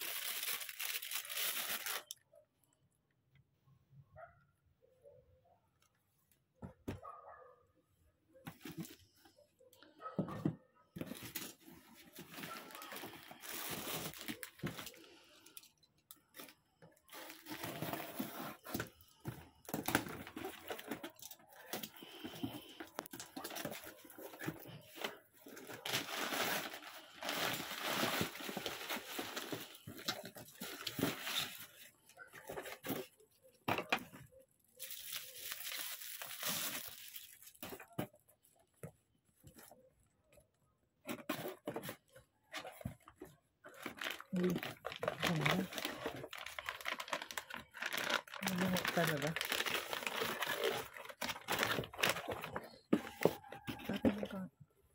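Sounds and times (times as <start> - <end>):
plastic and bubble wrap crinkling: 0.0 - 2.3, 11.0 - 15.6, 16.2 - 40.1, 41.1 - 54.5.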